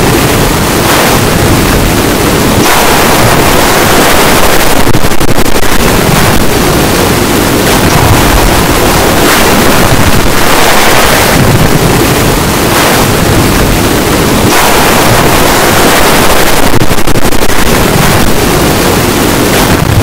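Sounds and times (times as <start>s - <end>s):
loud distorted noise roar: 0.0s - 20.0s.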